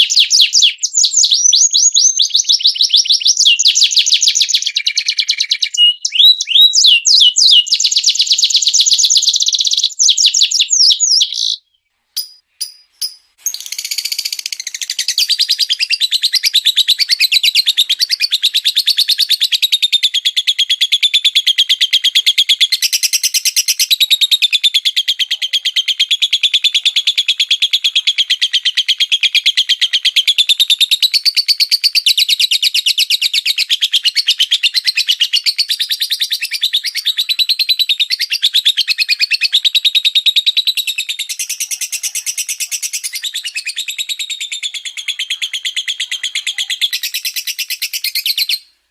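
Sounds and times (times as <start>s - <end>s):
songbird fast trill: 0.0s - 48.8s.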